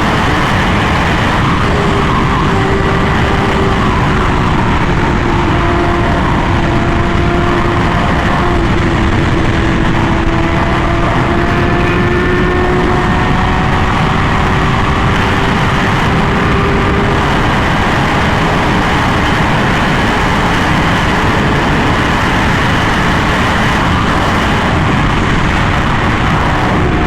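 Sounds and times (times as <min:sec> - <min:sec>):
loud wind noise: 0:00.0 - 0:27.0
motorcycle engine at high speed: 0:00.0 - 0:27.0.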